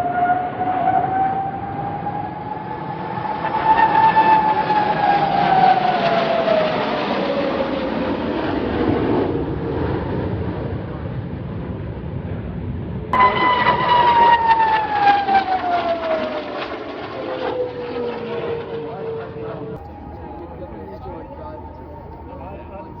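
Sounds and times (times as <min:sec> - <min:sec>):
jet aircraft flying past: 0:00.0 - 0:23.0.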